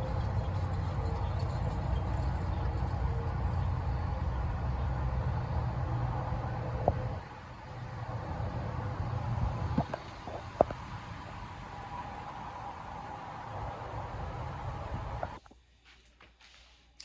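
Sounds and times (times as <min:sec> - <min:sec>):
vehicle engine rumbling: 0:00.0 - 0:15.4.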